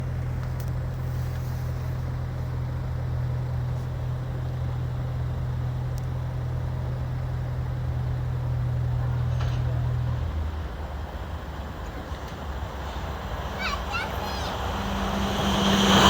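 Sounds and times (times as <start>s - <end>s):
low vehicle engine hum: 0.0s - 16.0s.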